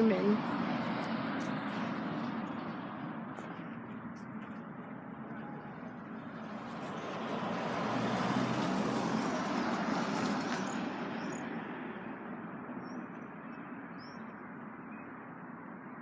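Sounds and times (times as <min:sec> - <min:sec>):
passing road vehicle: 0:00.0 - 0:16.0.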